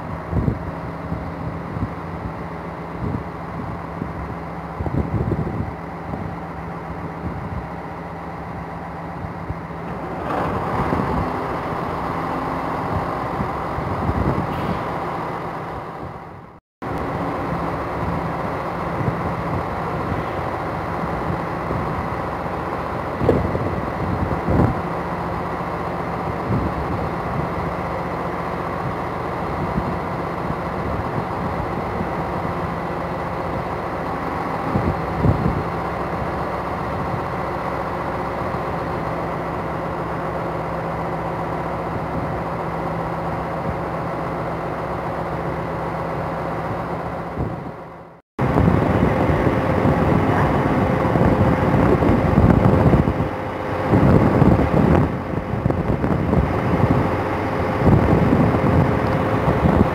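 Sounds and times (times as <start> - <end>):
diesel railcar engines running: 0.0 - 59.9
train humming at platform: 0.0 - 59.9.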